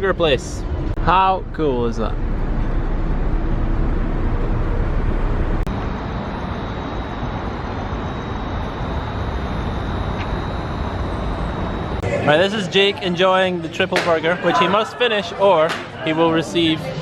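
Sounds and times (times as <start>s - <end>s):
traffic road noise: 0.0s - 17.0s.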